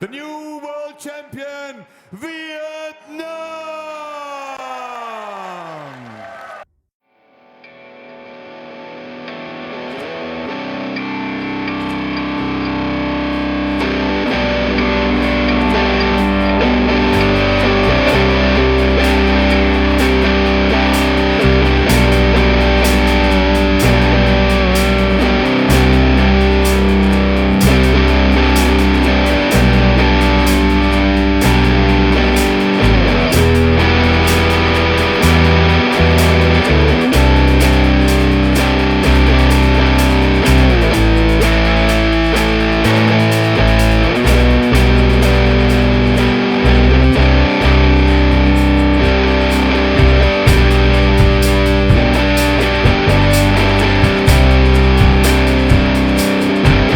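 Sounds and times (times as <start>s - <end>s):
rock music with electric guitar: 7.4s - 56.9s.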